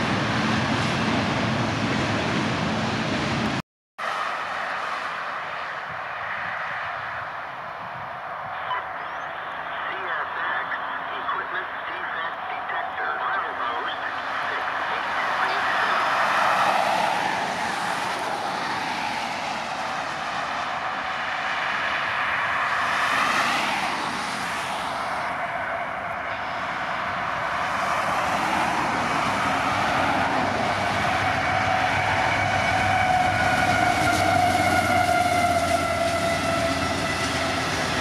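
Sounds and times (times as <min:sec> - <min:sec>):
diesel locomotives running past: 0:00.0 - 0:38.0.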